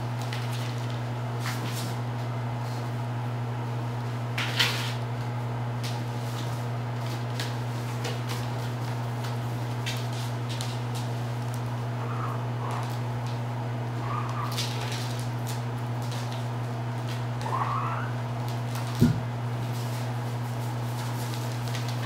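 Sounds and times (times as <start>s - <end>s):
kittens scuffling: 0.0s - 3.0s, 3.6s - 22.0s
low room hum: 0.0s - 22.0s.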